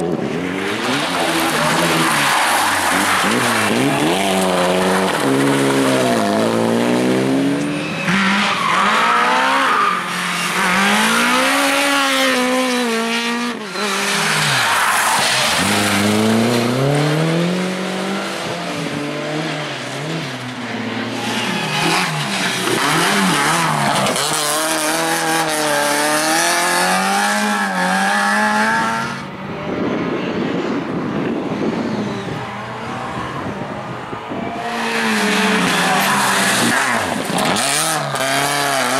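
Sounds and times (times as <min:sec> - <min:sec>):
rally car engines revving: 0:00.0 - 0:38.9
tyres squealing and skidding: 0:00.5 - 0:17.4, 0:19.5 - 0:29.1, 0:31.6 - 0:38.9.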